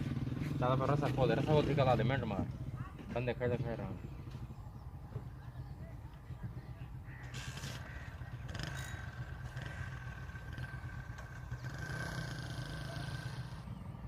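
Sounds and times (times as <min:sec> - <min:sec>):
boat engine humming: 0:02.5 - 0:14.0.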